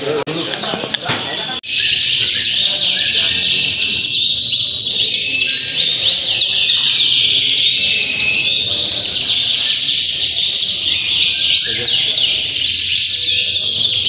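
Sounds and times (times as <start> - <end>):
canaries trilling and chirping: 0.0 - 14.0.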